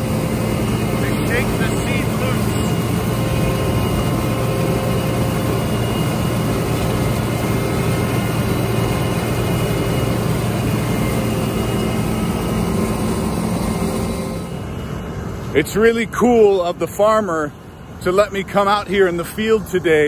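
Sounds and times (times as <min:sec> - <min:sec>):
combine harvester mechanical din: 0:00.0 - 0:19.7
steady humming tones: 0:00.0 - 0:20.0.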